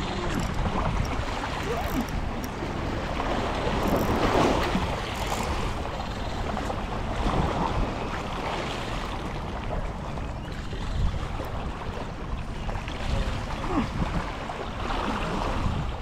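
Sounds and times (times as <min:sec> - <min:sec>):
water washing against boat: 0:00.0 - 0:16.0
wind buffeting microphone: 0:00.0 - 0:16.0.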